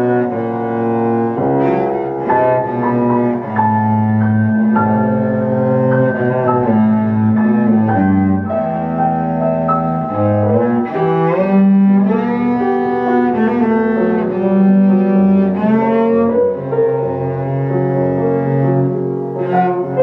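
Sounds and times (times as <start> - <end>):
bowed cello notes: 0.0 - 20.0
piano accompaniment: 0.0 - 20.0.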